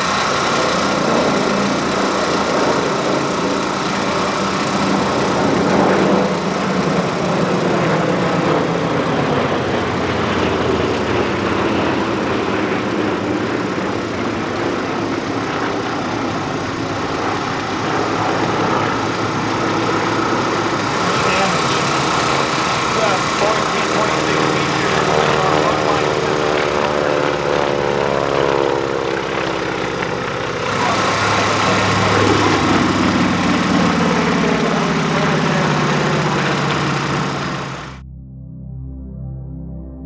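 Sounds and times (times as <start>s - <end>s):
propeller planes flying past: 0.0s - 38.0s.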